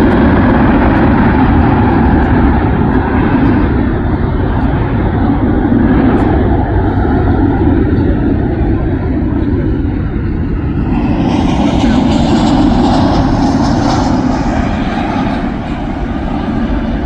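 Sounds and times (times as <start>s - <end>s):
jet airliner engine rush: 0.0s - 17.0s.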